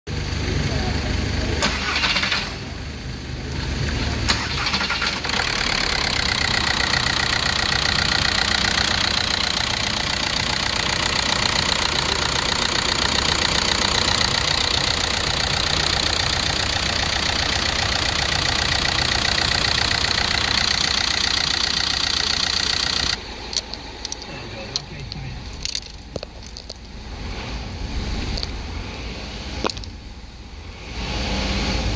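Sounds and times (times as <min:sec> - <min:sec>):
diesel engine idling: 0:00.1 - 0:31.1.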